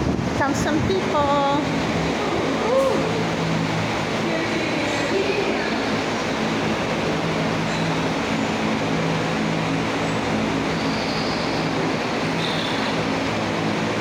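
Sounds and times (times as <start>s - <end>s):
mechanical drone: 0.0s - 14.0s.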